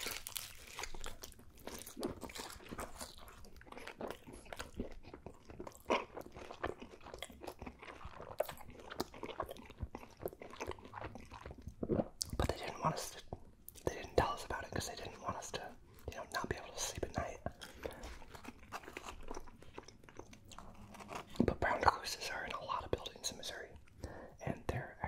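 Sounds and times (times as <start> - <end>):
chewing crunchy pizza: 0.0 - 24.9.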